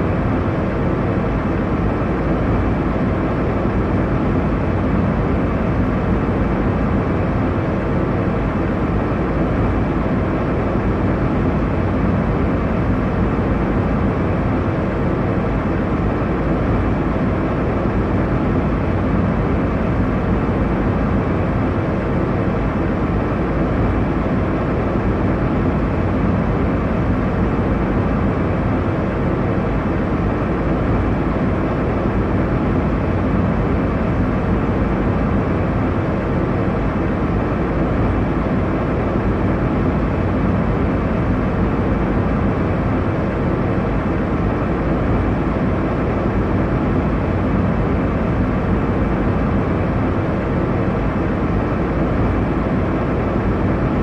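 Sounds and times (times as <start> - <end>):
airliner cabin engine rumble and hiss: 0.0 - 54.0.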